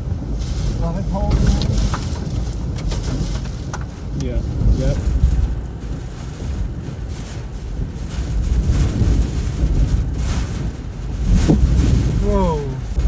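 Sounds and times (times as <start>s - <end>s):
strong wind gusts buffeting microphone: 0.0s - 13.0s.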